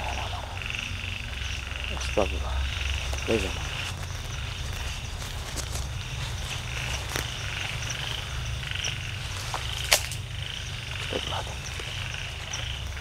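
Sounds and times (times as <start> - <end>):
frogs calling: 0.0 - 13.0
steady low rumble: 0.0 - 13.0.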